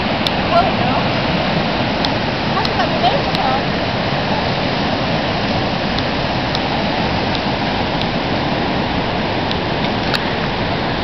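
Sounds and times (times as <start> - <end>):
river rushing roar: 0.0 - 11.0.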